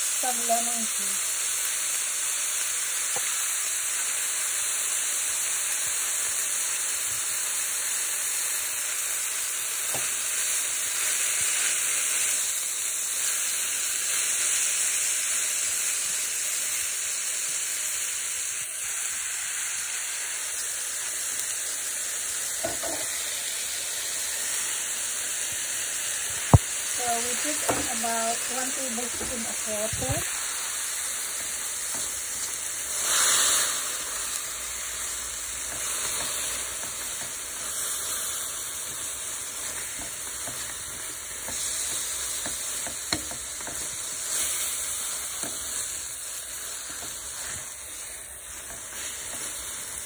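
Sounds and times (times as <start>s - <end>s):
noodles sizzling in a pan: 0.0s - 50.0s.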